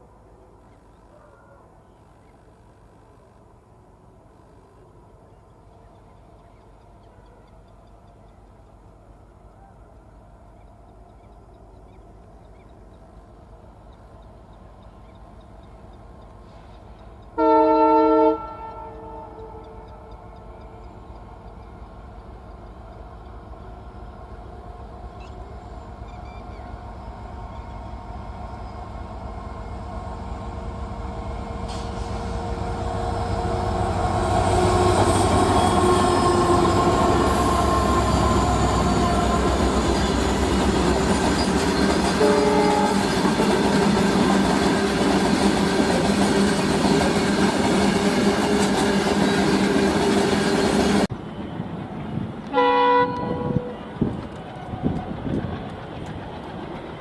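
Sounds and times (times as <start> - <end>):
diesel train passing: 1.7 - 57.0.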